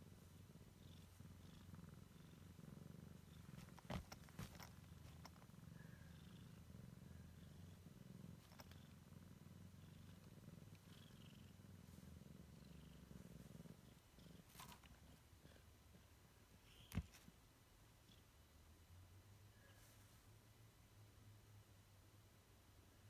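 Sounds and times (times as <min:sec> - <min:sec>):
cat purring: 0:00.0 - 0:20.1.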